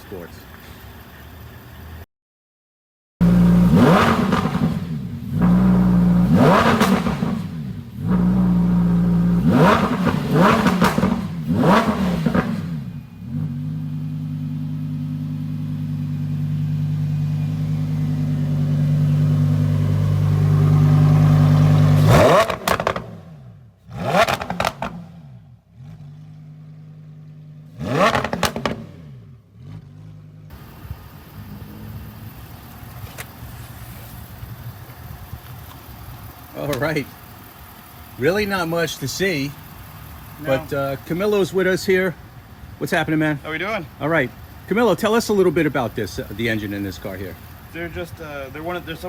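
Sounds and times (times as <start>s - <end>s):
sports car engine revving: 3.2s - 49.0s.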